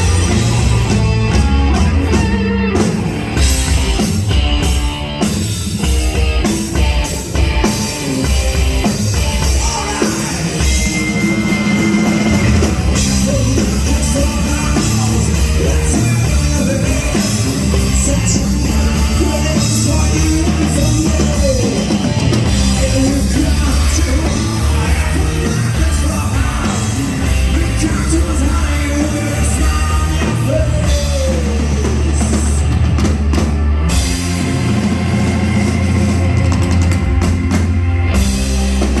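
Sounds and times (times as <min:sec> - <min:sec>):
bass guitar: 0:00.0 - 0:39.0
drum kit: 0:00.0 - 0:39.0
electric guitar: 0:00.0 - 0:39.0.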